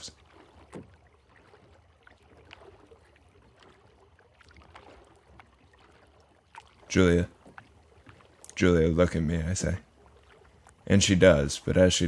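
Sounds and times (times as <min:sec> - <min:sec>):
small water splashes: 0:00.0 - 0:12.0
water gently lapping: 0:00.0 - 0:12.0.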